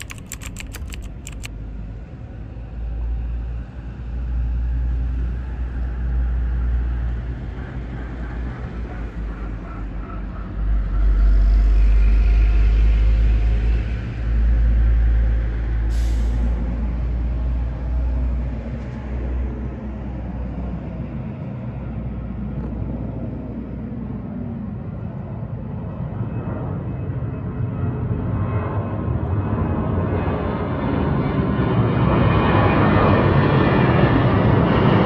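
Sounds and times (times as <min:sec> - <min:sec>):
faint jet engine whine: 0:00.0 - 0:35.0
jet engines deep rumble: 0:00.0 - 0:35.0.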